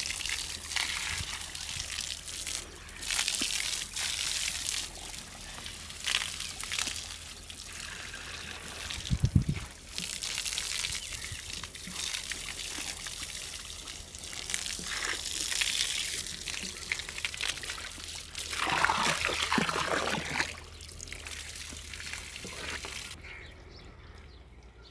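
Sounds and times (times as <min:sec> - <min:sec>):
hose water spraying and splashing: 0:00.0 - 0:23.2.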